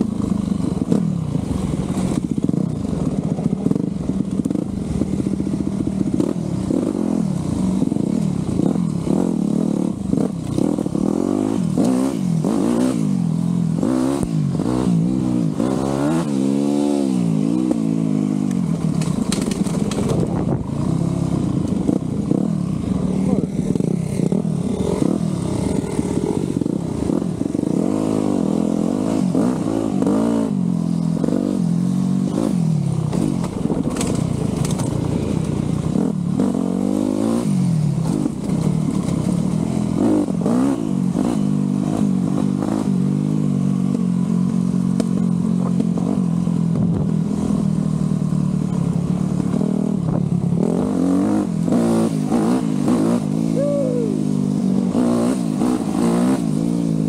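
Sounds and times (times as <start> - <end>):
dirt bike engine revving: 0.0 - 44.0, 49.1 - 57.0.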